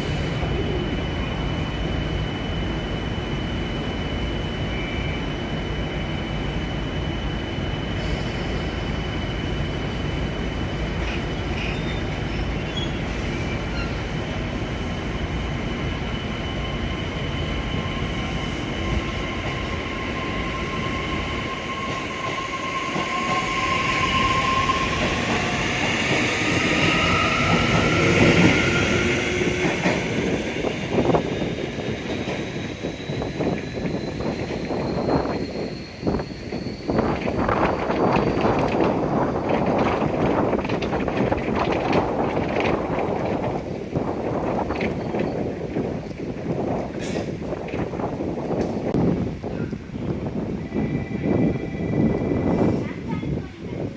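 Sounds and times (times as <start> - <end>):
train squealing: 0.0 - 43.7, 49.5 - 53.5
train rumbling: 0.0 - 53.9.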